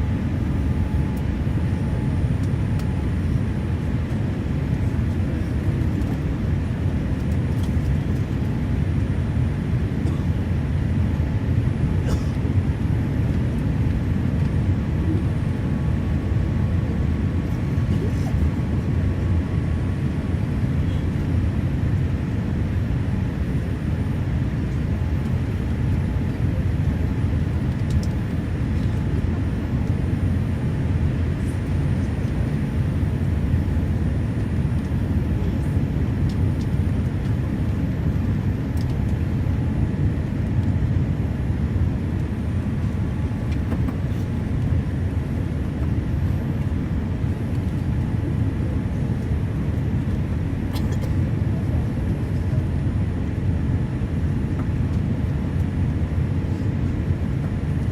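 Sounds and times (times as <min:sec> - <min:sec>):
jet engine rumble in cabin: 0:00.0 - 0:57.9.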